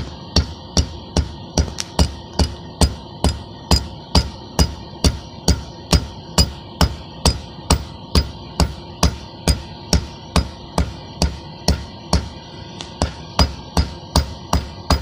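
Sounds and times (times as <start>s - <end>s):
hammer striking hot steel on anvil: 0.0s - 15.0s.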